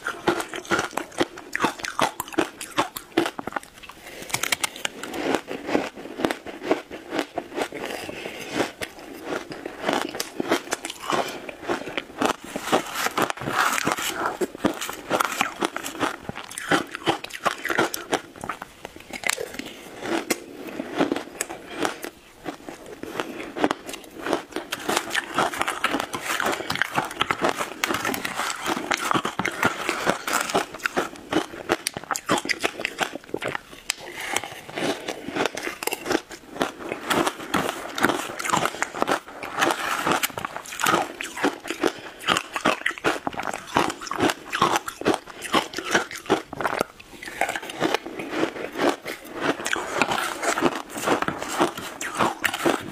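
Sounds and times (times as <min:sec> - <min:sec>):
crunching and chewing shaved ice: 0:00.0 - 0:52.9.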